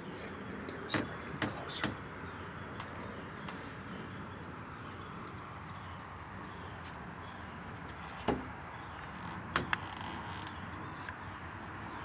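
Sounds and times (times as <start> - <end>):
faint insect drone: 0.0 - 12.0.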